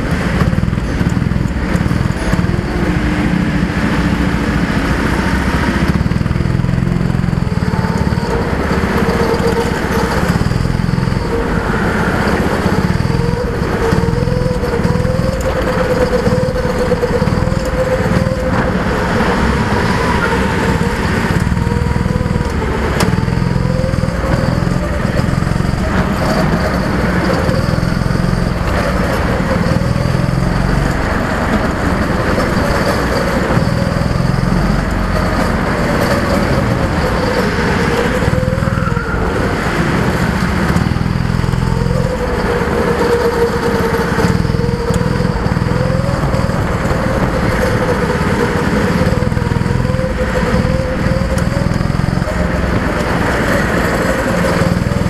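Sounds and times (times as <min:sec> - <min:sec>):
go-kart engine: 0:00.0 - 0:55.0.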